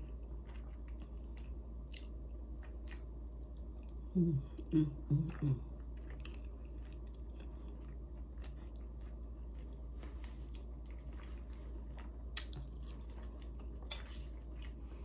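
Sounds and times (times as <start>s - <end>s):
chewing food: 0.0s - 15.0s.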